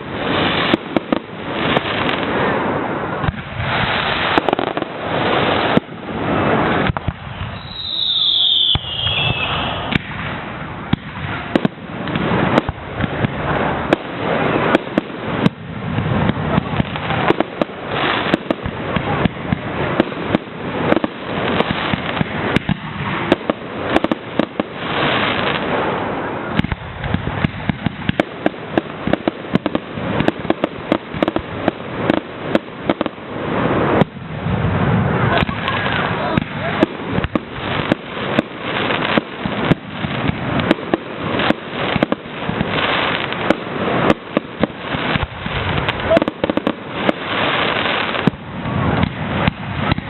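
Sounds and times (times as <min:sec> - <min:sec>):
steady noisy rush: 0:00.0 - 0:07.9, 0:08.8 - 0:50.0
fireworks bangs and crackles: 0:00.0 - 0:50.0.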